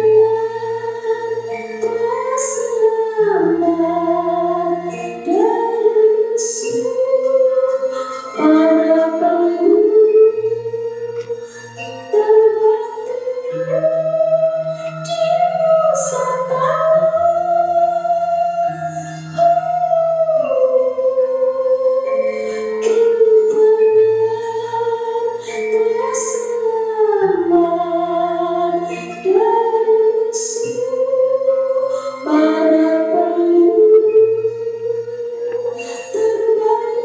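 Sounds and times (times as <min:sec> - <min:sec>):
gamelan music: 0:00.0 - 0:37.0.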